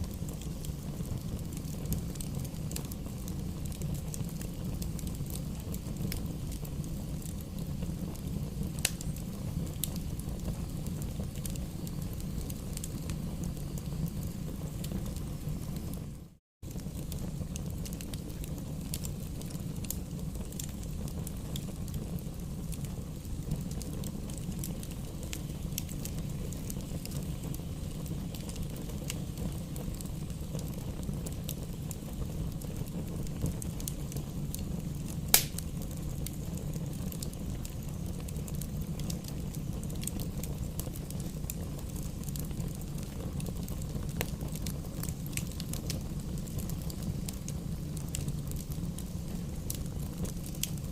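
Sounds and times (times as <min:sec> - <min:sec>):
campfire crackling and popping: 0:00.0 - 0:50.9
low fire rumble: 0:00.0 - 0:50.9.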